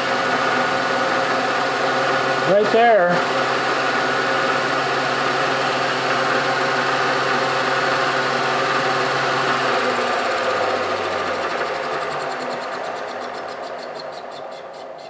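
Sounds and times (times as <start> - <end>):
milling machine spindle hum: 0.0 - 15.0.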